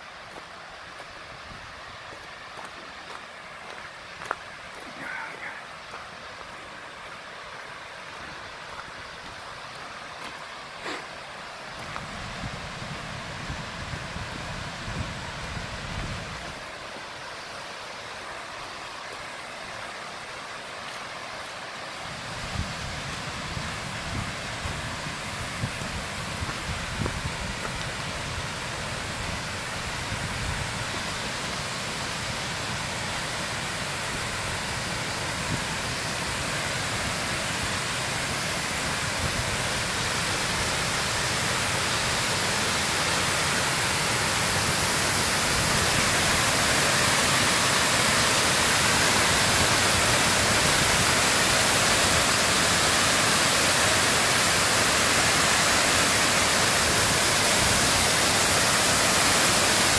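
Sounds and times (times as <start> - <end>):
water cascading down a dam: 0.0 - 59.9.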